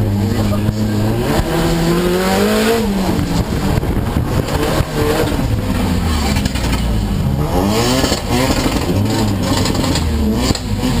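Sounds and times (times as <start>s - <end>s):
car engine revving: 0.0s - 11.0s
road and wind noise: 0.0s - 11.0s.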